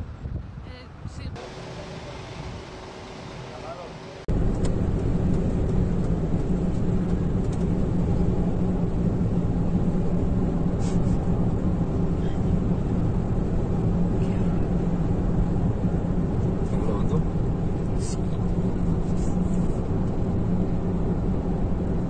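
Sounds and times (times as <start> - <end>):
constant low hum: 0.0 - 22.0
vehicle engine and road noise: 0.0 - 22.0.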